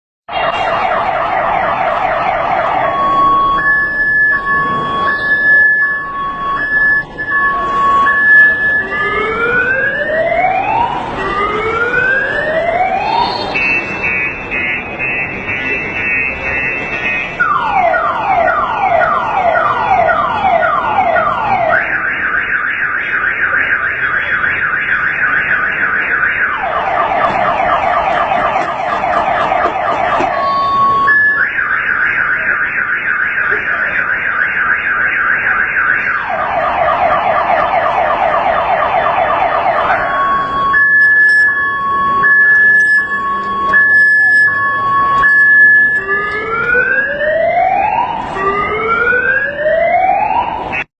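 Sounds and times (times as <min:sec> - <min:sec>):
car alarm siren: 0:00.3 - 0:50.9.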